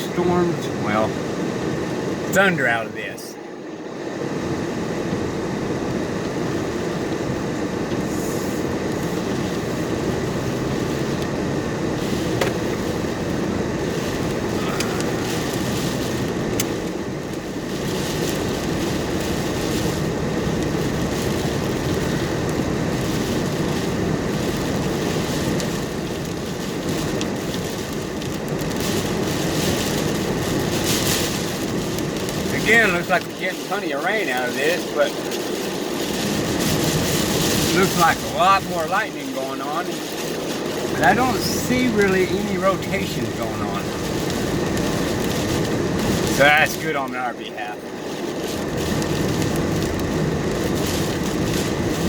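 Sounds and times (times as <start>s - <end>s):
vehicle heater fan blowing: 0.0s - 52.0s.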